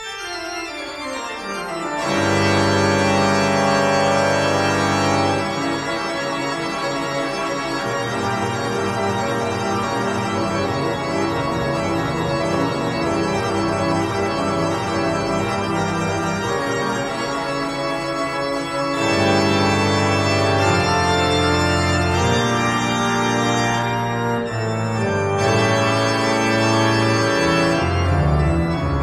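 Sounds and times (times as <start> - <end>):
organ-like keyboard chords: 0.0 - 29.0.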